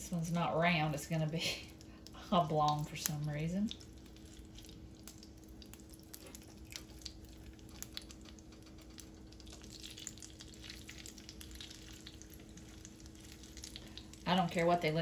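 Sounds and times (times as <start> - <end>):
batter frying in hot oil: 0.0 - 15.0
faint steady hum: 0.0 - 15.0
oil pops and crackles: 1.7 - 14.3.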